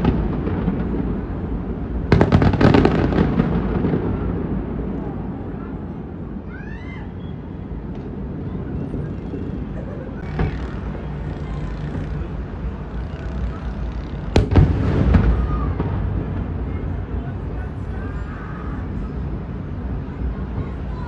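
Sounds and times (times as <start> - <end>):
fireworks bangs: 0.0 - 6.4, 7.8 - 21.0.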